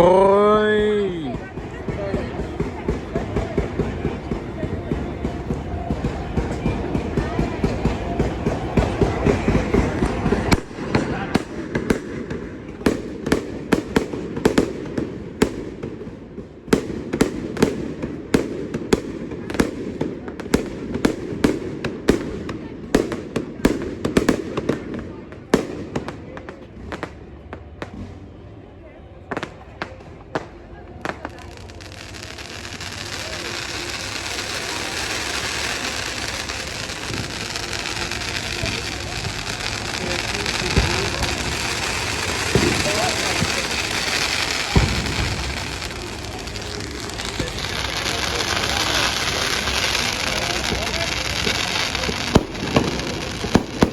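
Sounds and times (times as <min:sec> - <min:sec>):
fireworks bangs: 0:00.0 - 0:28.6, 0:29.2 - 0:53.9.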